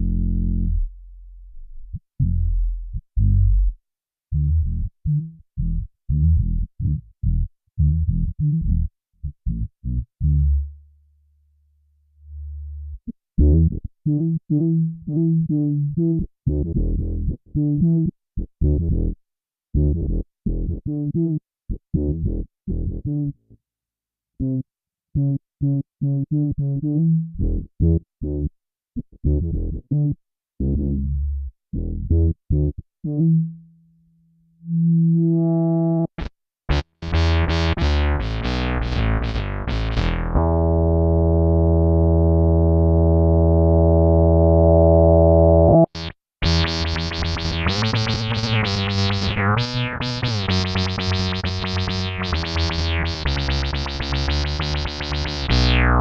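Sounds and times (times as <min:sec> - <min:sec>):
synth bass guitar notes: 0:00.0 - 0:10.8, 0:12.2 - 0:19.2, 0:19.8 - 0:23.6, 0:24.4 - 0:33.6, 0:34.6 - 0:56.0.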